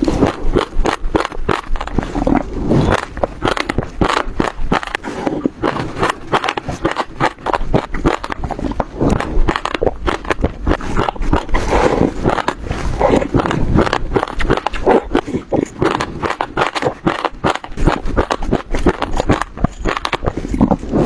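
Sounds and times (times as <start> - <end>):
crunching of seeds being chewed: 0.0 - 21.0
wet mouth sounds: 0.0 - 21.0.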